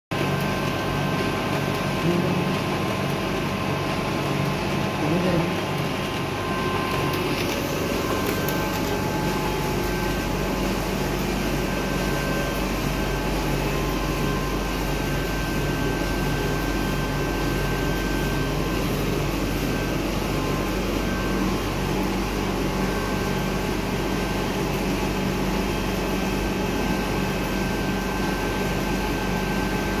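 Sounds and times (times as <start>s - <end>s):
printer fans and motors humming: 0.1s - 30.0s.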